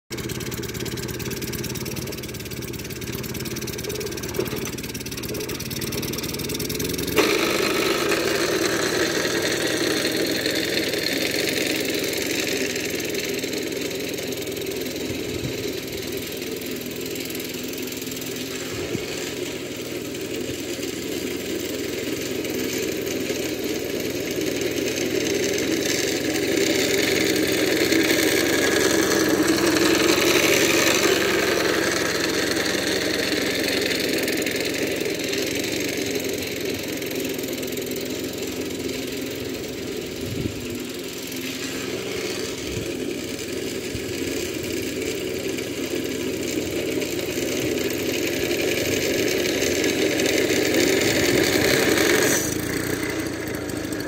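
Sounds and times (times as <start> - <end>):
lawn mower engine running: 0.1 - 54.0.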